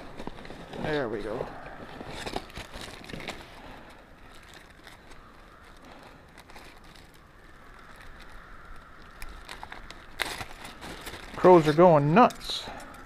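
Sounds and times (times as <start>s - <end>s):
plastic bag crinkling: 1.9s - 12.5s.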